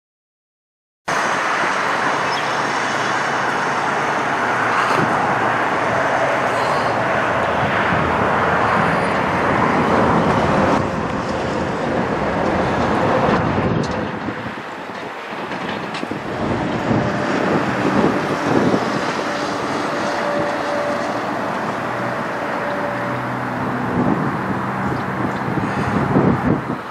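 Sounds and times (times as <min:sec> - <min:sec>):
road traffic noise: 0:01.1 - 0:26.9
truck diesel engine: 0:01.1 - 0:26.9.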